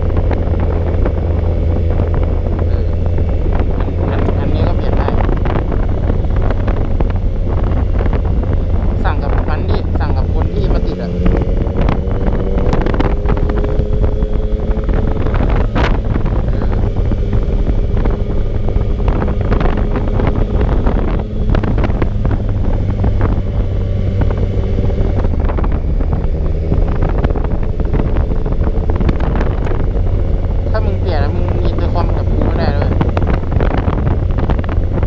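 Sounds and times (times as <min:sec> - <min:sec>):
crackling wind pops: 0:00.0 - 0:35.0
motorcycle engine cruising: 0:00.0 - 0:35.0
wind buffeting microphone: 0:00.0 - 0:35.0.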